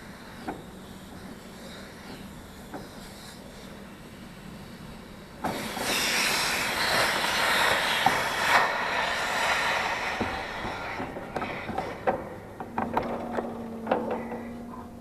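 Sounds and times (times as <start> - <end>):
torch flame hissing: 0.0 - 13.5.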